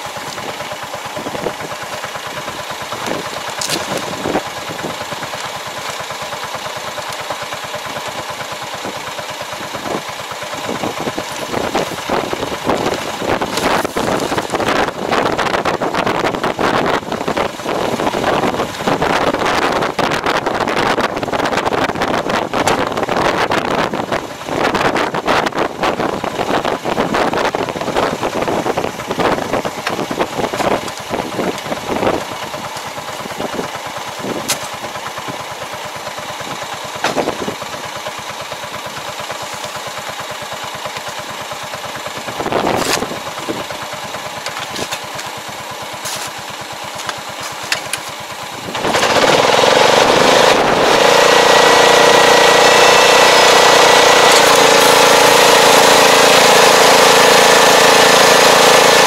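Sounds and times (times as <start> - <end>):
tractor diesel engine: 0.0 - 59.0.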